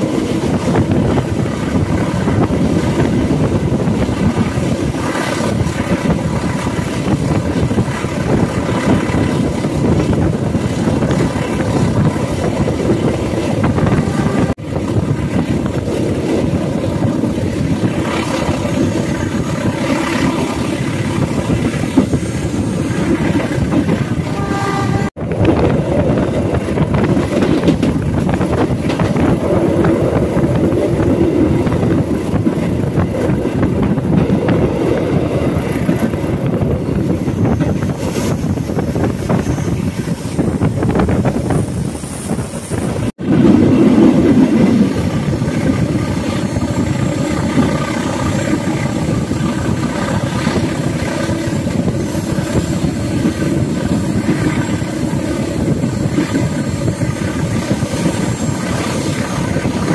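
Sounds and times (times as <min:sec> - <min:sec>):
diesel locomotive engine: 0:00.0 - 0:59.9
rush of moving train: 0:00.0 - 0:59.9.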